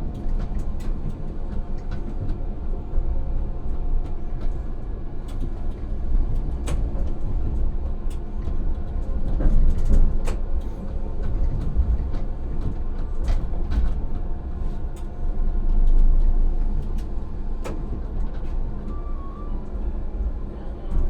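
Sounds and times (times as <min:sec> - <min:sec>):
tram rumbling: 0:00.0 - 0:21.0.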